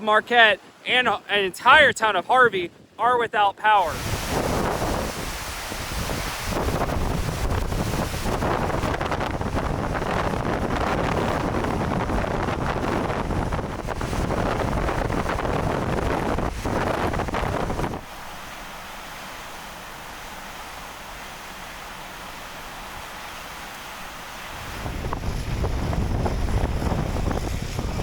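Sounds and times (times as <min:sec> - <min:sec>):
blizzard wind on microphone: 0:00.1 - 0:28.0.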